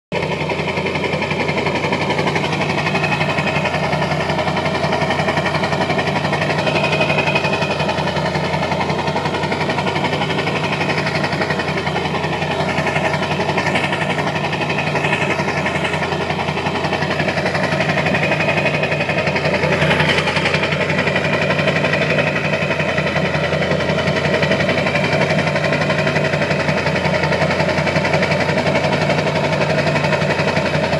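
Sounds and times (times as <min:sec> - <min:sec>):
diesel engine idling rough: 0:00.1 - 0:30.9.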